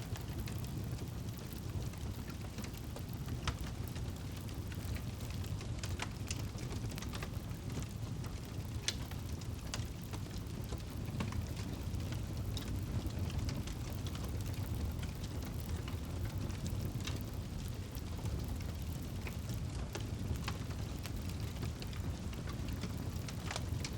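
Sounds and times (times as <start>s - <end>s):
burning wood crackling and popping: 0.0s - 23.9s
low rush of flame: 0.0s - 23.9s.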